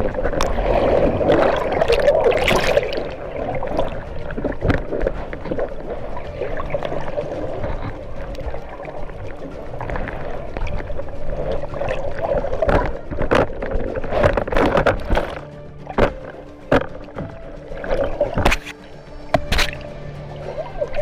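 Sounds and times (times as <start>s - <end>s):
bubbles rushing: 0.0s - 18.6s
underwater surf churning: 0.0s - 21.0s
sharp underwater pops: 1.3s - 19.9s.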